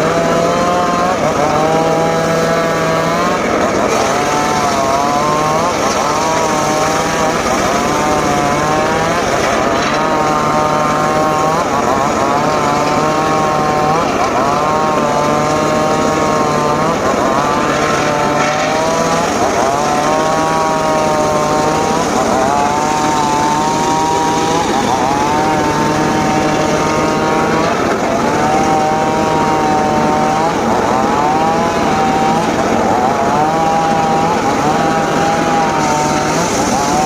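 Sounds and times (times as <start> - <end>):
circular saw cutting wood: 0.0 - 37.0.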